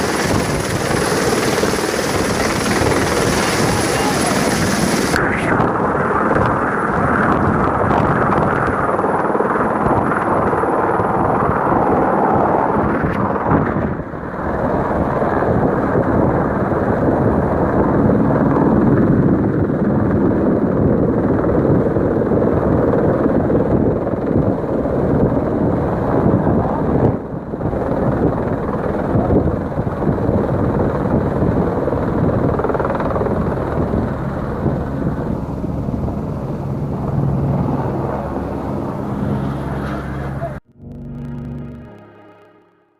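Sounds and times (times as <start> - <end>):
helicopter hovering: 0.0 - 42.9.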